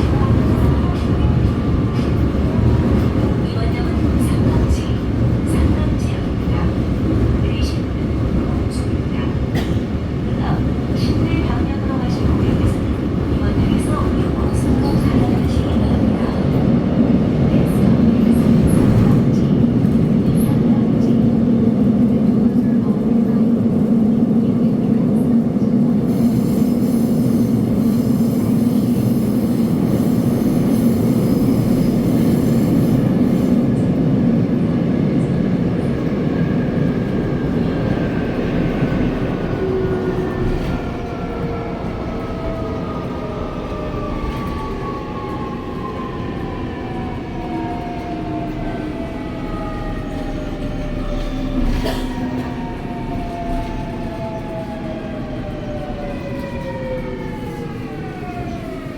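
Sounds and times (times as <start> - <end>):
subway train rumbling: 0.0 - 58.9.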